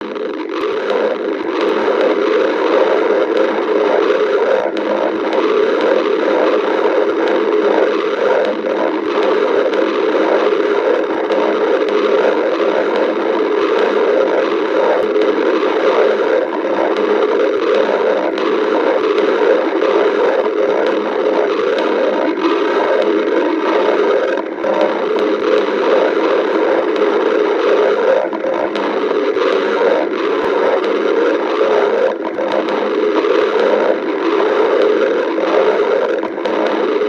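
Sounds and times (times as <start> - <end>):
stomach growling: 0.0 - 37.0.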